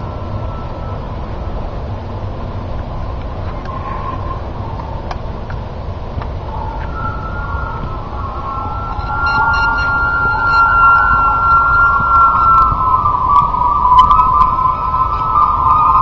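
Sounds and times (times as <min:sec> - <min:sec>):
kite line humming in wind: 0:00.0 - 0:16.0
wind rumble on microphone: 0:00.0 - 0:16.0.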